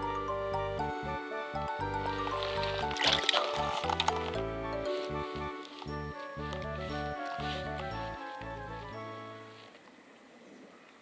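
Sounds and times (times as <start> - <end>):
instrumental music with bass line: 0.0 - 9.6.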